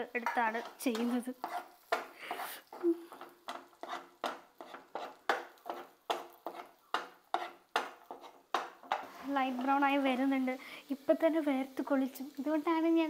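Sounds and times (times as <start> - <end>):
wooden spatula scraping a pan: 0.0 - 10.6
garlic sizzling in butter: 0.0 - 13.0.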